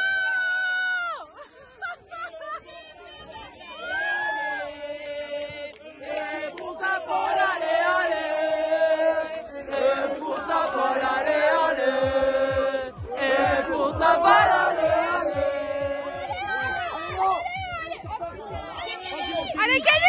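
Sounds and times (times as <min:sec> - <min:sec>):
crowd chanting: 0:02.1 - 0:20.0.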